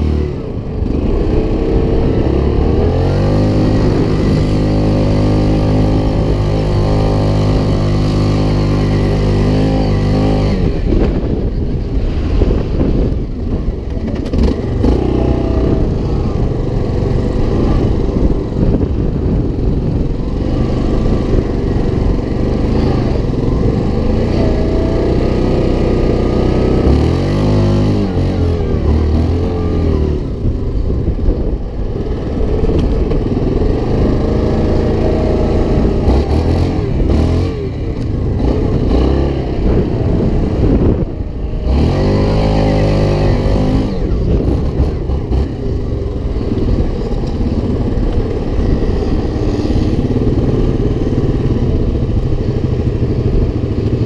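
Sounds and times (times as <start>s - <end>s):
engine revving: 0.0s - 54.0s
off-road vehicle engines running: 0.0s - 54.0s.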